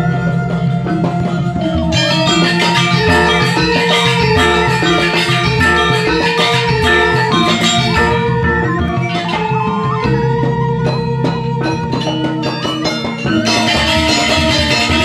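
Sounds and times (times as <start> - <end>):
drums: 0.0 - 15.0
metallophones ringing: 0.0 - 15.0.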